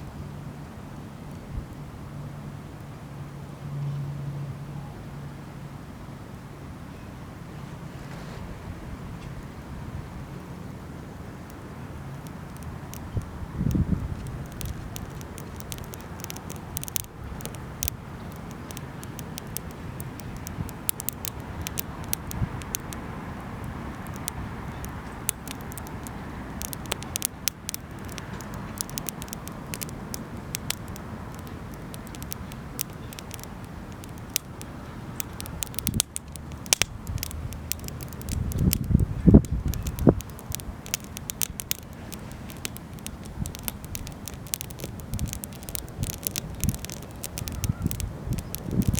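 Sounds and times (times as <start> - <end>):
wood fire crackling: 9.4 - 48.9.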